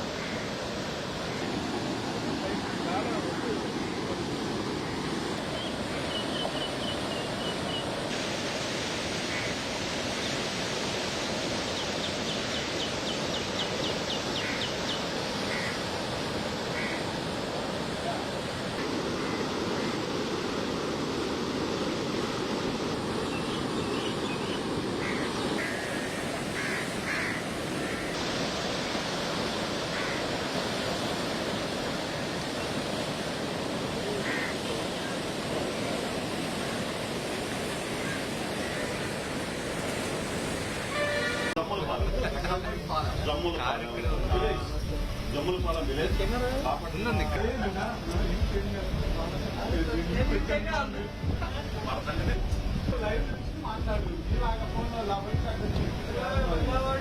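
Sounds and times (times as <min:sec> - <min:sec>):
rough water rushing: 0:00.0 - 0:57.0
wind: 0:00.0 - 0:57.0.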